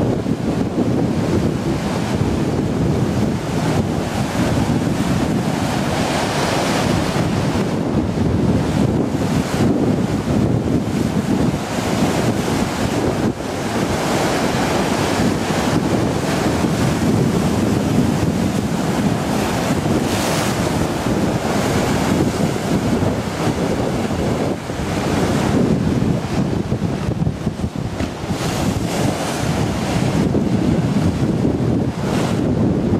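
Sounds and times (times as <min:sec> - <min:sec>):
waves breaking against sea wall: 0:00.0 - 0:32.9
wind buffeting microphone: 0:00.0 - 0:32.9.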